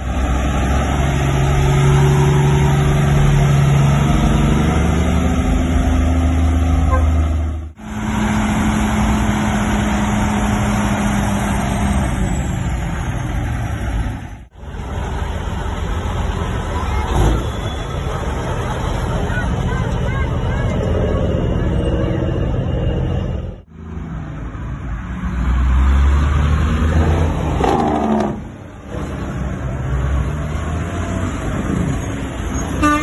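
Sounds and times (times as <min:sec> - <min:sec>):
diesel truck engines running: 0:00.0 - 0:33.0.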